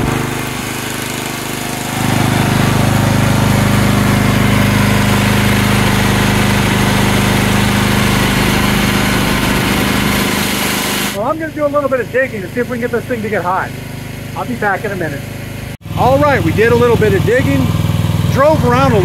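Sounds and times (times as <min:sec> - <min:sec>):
excavator engine idling: 0:00.0 - 0:19.0.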